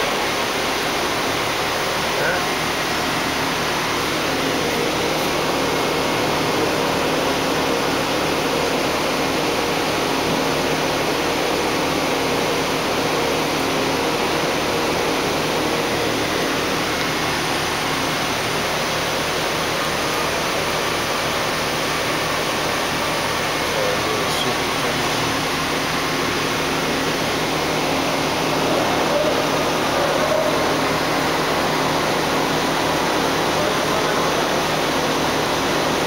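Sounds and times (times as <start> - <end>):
coolant spray rushing: 0.0 - 36.0
faint machine hum: 0.0 - 36.0.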